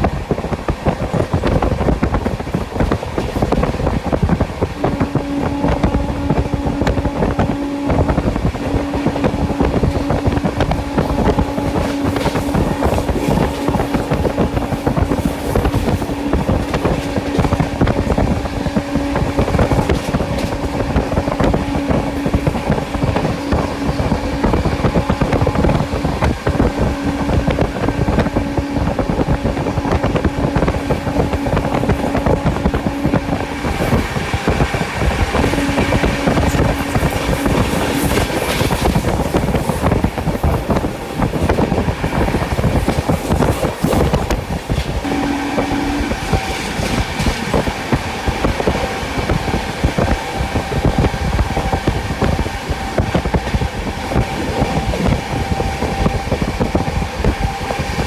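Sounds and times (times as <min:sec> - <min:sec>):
clatter over rail joints: 0:00.0 - 0:58.0
train wheels rumbling on track: 0:00.0 - 0:58.0
wind noise: 0:00.0 - 0:58.0.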